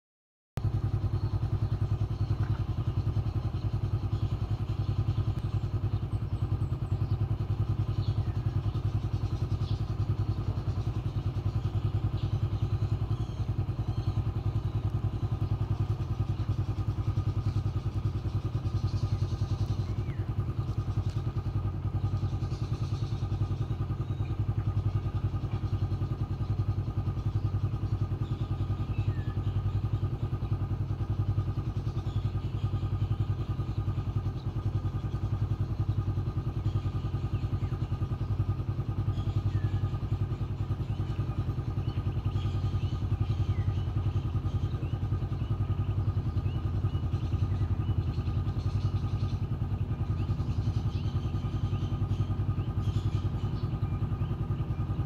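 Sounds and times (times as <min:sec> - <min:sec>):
engine idling: 0:00.6 - 0:55.0.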